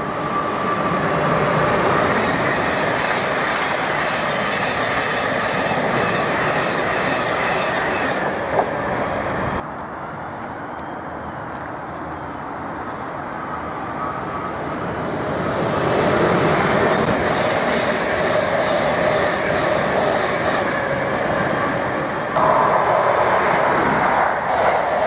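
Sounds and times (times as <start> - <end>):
diesel train passing at speed: 0.0 - 25.0
electric train passing at speed: 0.0 - 25.0.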